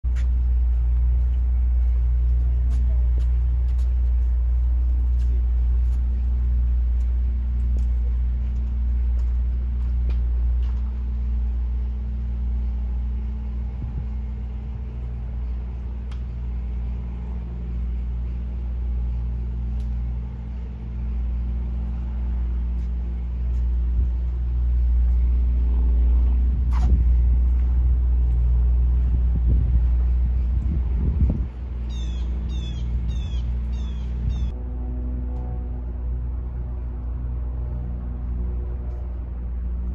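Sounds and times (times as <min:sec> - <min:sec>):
low mechanical rumble: 0:00.0 - 0:39.9
faint steady hum tones: 0:00.1 - 0:39.9.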